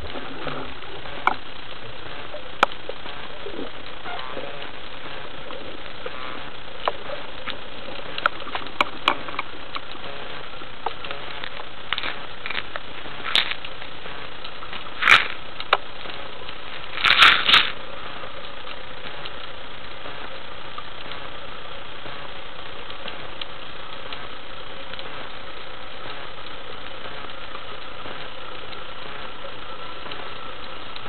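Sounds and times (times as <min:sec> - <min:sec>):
clicks and crackles: 0:00.0 - 0:31.0.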